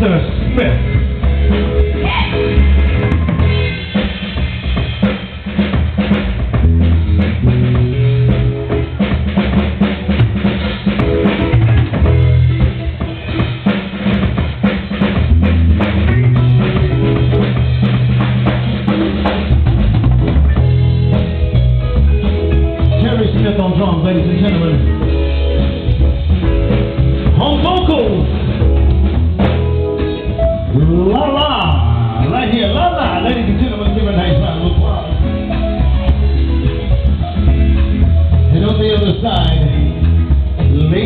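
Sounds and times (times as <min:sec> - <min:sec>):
drum kit busy rhythm: 0:00.0 - 0:41.0
jazz band playing: 0:00.0 - 0:41.0
walking electric bass line: 0:00.0 - 0:41.0.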